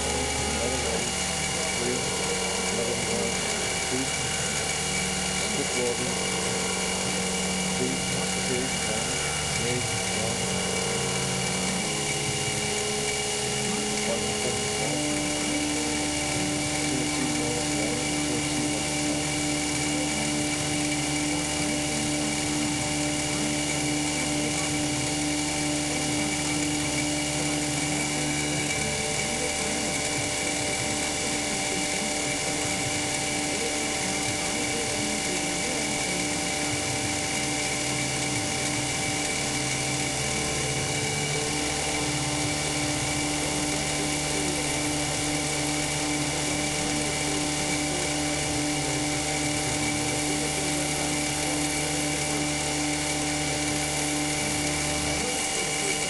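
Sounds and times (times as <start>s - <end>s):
milling machine whine: 0.0s - 56.0s.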